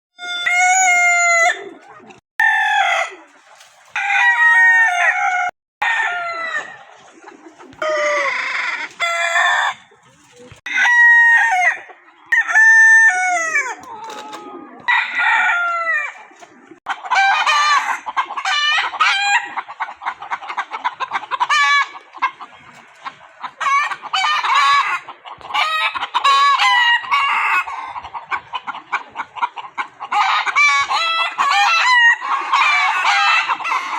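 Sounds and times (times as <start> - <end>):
roosters crowing: 0.2 - 6.9, 7.6 - 9.9, 10.7 - 19.8, 23.4 - 28.9, 29.5 - 33.9
chickens clucking: 0.2 - 33.9.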